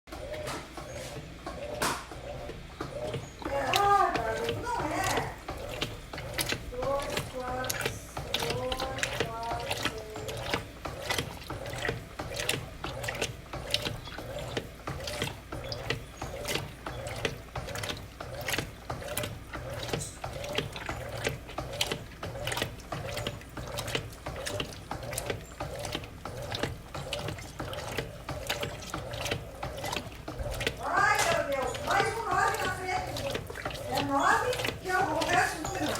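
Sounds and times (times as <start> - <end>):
washing machine motor humming: 0.0 - 35.9
rhythmic mechanical clicking: 0.1 - 35.9
water moving in drum: 0.1 - 35.9.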